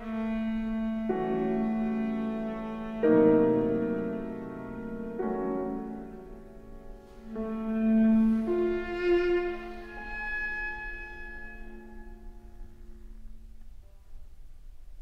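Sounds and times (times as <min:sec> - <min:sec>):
viola bowed notes: 0:00.0 - 0:13.6
piano chords: 0:00.0 - 0:14.0.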